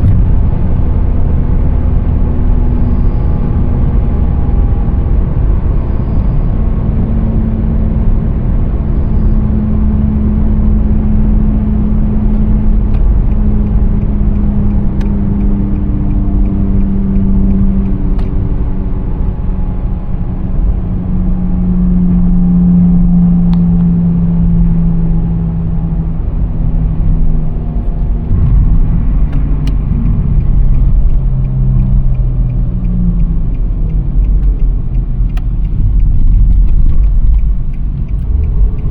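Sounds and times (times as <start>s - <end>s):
car engine hum: 0.0s - 38.9s
road rumble: 0.0s - 38.9s.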